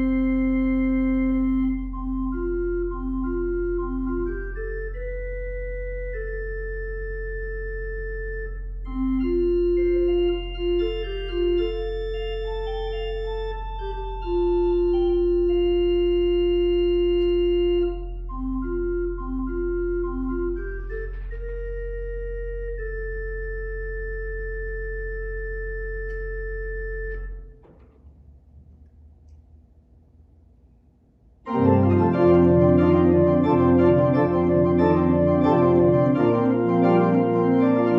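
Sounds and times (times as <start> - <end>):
organ playing slow melody: 0.0 - 27.6, 31.5 - 37.9.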